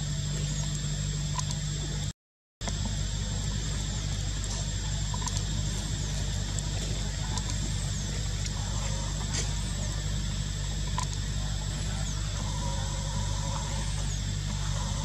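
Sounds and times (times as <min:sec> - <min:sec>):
steady low hum: 0:00.0 - 0:15.0
thin high whine: 0:00.0 - 0:15.0.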